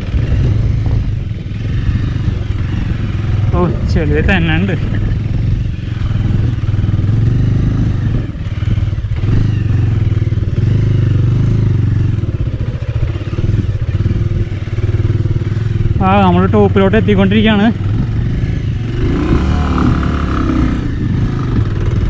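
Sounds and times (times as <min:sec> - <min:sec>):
motorcycle engine under load: 0:00.0 - 0:22.0.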